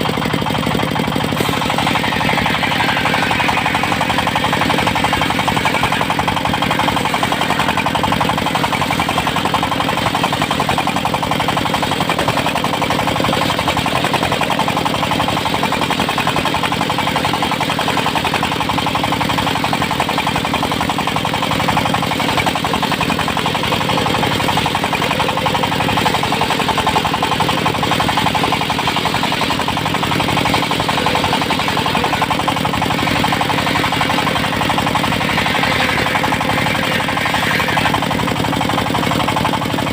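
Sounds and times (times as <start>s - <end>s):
sawmill engine chugging: 0.0s - 39.9s.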